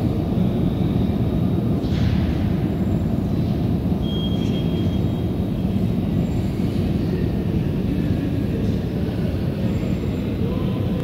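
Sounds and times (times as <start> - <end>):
metro train rumbling: 0.0 - 11.0.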